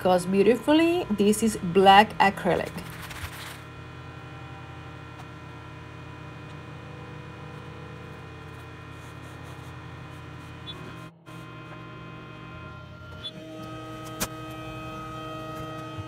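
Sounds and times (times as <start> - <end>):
laser cutter humming: 0.0 - 3.0, 3.6 - 16.0.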